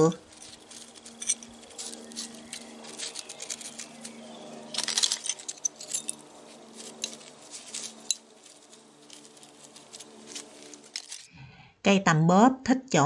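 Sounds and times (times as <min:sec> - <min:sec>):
mussel shells clinking: 0:00.0 - 0:11.3.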